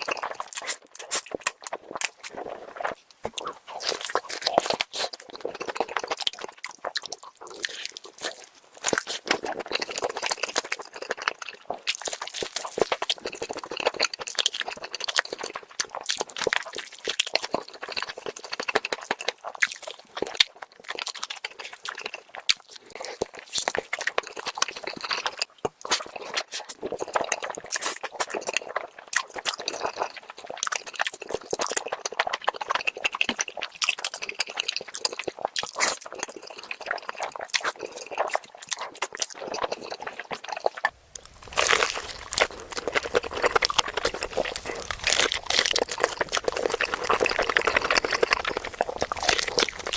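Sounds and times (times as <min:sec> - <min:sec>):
close chewing mouth sounds: 0:00.0 - 0:49.9.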